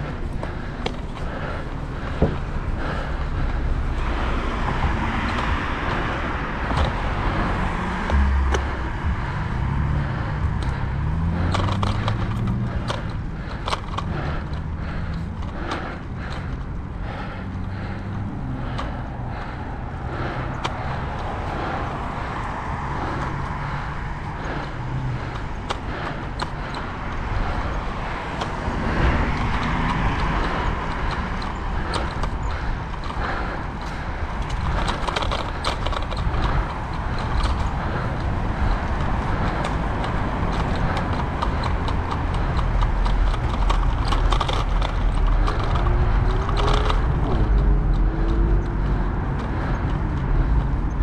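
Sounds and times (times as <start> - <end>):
bicycle frame rattling: 0.0 - 51.0
road traffic: 0.0 - 51.0.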